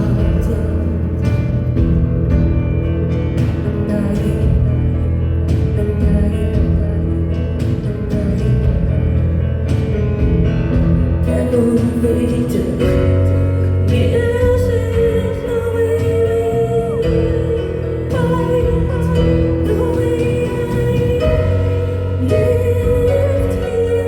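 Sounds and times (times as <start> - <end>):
bass line: 0.0 - 24.0
live rock band music: 0.0 - 24.0
woman singing: 0.0 - 24.0.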